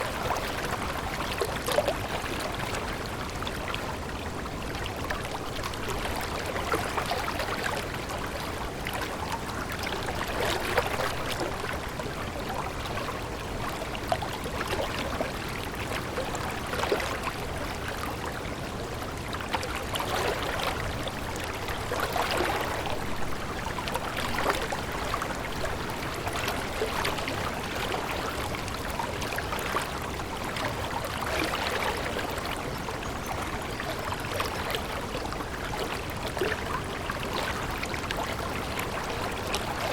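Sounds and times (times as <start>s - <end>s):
small water splashes: 0.0s - 39.9s
stream babbling: 0.0s - 39.9s.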